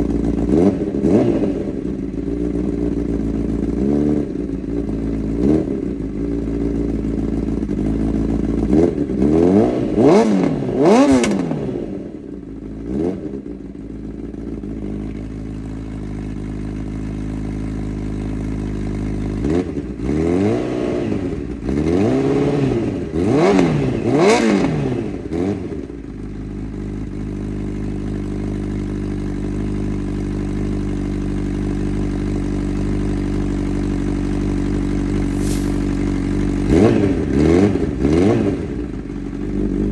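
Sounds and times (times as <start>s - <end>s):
motorcycle engine revving and idling: 0.0s - 34.9s, 36.4s - 39.9s.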